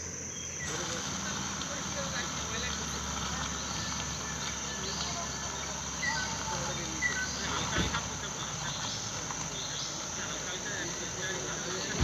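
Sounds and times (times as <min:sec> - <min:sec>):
bird chirps: 0:00.0 - 0:01.0, 0:02.0 - 0:12.0
insects droning: 0:00.0 - 0:12.0.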